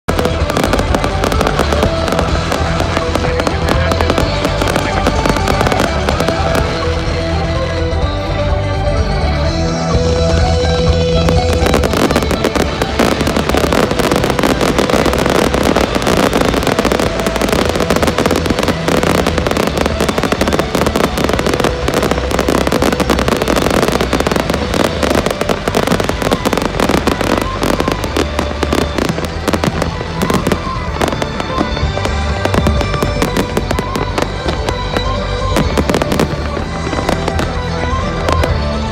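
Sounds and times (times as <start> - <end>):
fireworks crackling and banging: 0.0 - 9.1, 10.0 - 38.9
music playing: 0.1 - 38.9.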